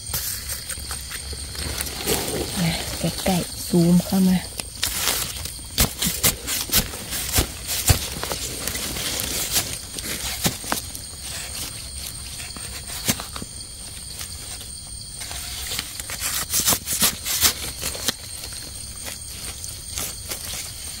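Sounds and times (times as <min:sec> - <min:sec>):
dry leaves crackling underfoot: 0:00.2 - 0:21.0.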